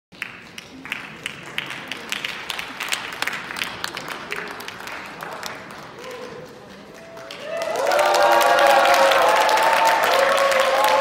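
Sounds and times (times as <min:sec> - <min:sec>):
individual claps: 0:00.1 - 0:11.0
audience applauding: 0:00.2 - 0:11.0.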